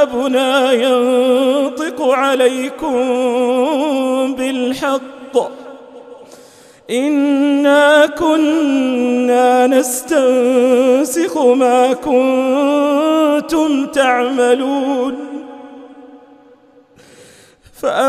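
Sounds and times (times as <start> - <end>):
man chanting melodically: 0.0 - 16.3, 17.7 - 18.0.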